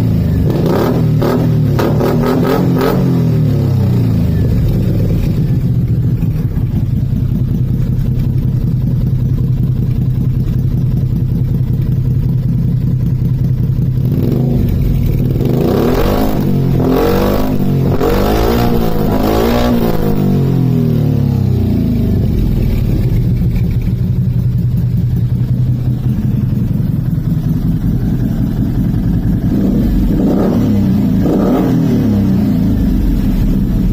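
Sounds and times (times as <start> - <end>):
engine idling: 2.4 - 18.1, 18.8 - 33.9.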